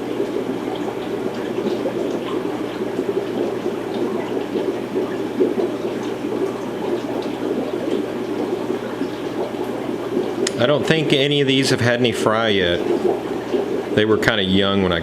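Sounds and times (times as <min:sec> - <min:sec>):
aquarium water bubbling and trickling: 0:00.0 - 0:15.0.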